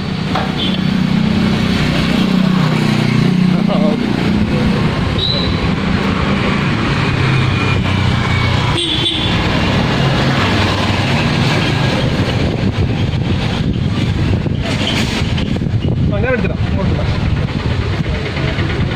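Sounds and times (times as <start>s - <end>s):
vehicle engine rumbling: 0.0s - 18.9s.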